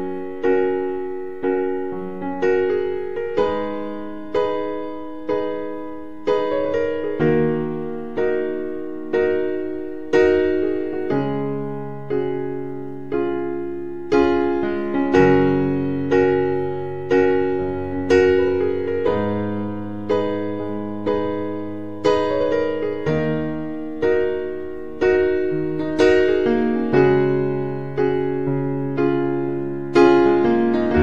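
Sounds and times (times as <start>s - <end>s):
soft piano chords: 0.0s - 31.0s.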